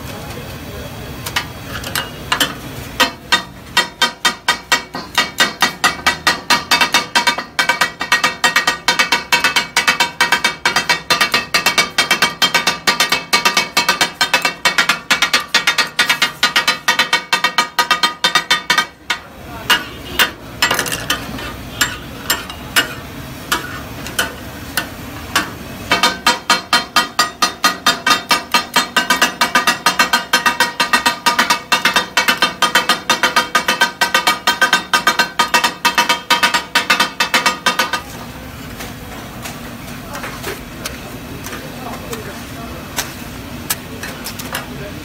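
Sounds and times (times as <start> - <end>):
steel blades clattering on griddle: 1.3 - 38.2.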